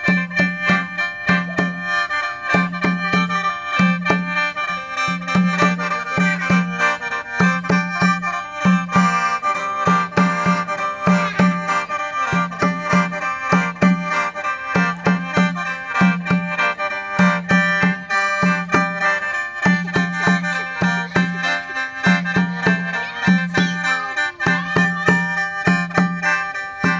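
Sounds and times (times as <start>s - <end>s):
bamboo mouth organ playing: 0.0s - 26.9s.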